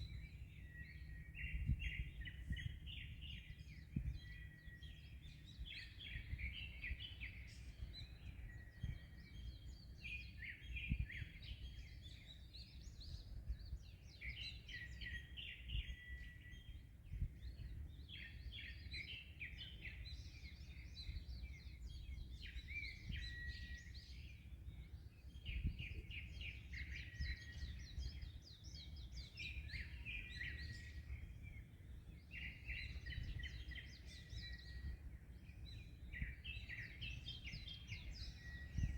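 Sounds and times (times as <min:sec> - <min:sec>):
small birds singing: 0:00.0 - 0:38.9
wind: 0:00.0 - 0:38.9.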